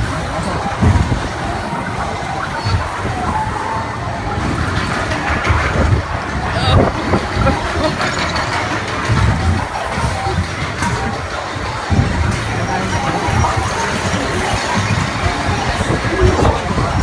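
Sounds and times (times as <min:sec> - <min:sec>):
people's voices: 0:00.0 - 0:17.0
roller coaster rumbling on track: 0:00.0 - 0:17.0.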